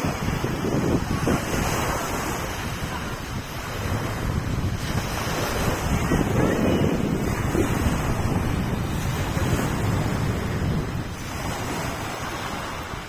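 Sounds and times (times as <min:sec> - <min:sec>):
sea waves washing ashore: 0:00.0 - 0:13.0
wind buffeting microphone: 0:00.0 - 0:13.0.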